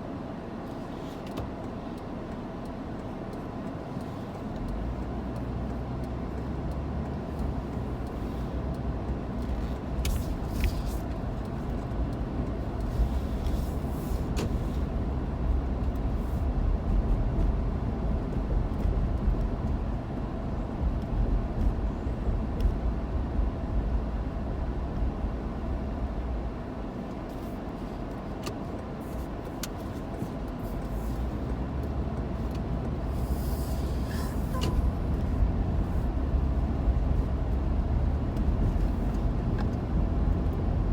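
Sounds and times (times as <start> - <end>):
vehicle rumble in motion: 0.0 - 40.9.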